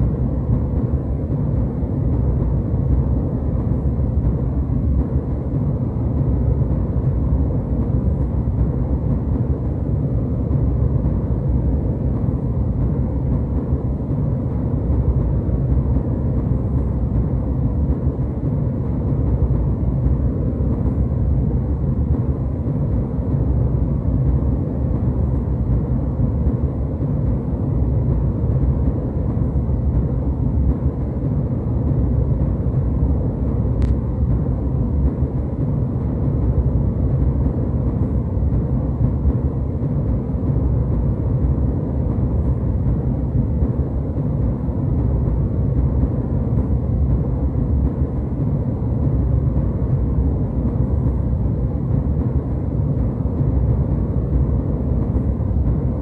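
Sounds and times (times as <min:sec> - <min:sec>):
faint steady hum: 0:00.0 - 0:56.0
jet engine and airflow drone: 0:00.0 - 0:56.0.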